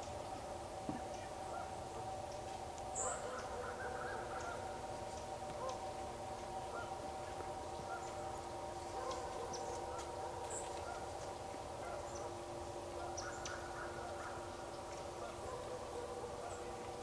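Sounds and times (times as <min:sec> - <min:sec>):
distant geese honking: 0:00.0 - 0:17.0
steady background hum: 0:00.0 - 0:17.0.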